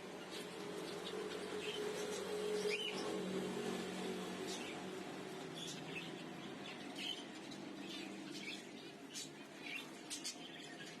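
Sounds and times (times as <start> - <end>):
caged small birds chirping: 0.0 - 11.0.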